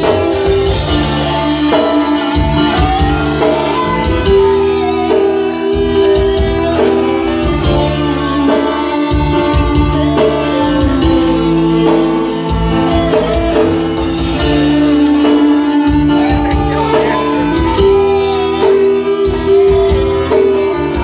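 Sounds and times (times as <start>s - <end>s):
pop song instrumental: 0.0s - 21.0s.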